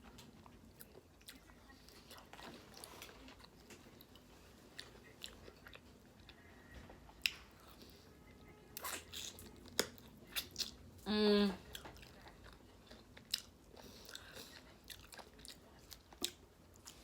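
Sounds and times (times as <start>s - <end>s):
person chewing food: 0.0s - 8.1s, 8.8s - 11.0s, 11.6s - 17.0s.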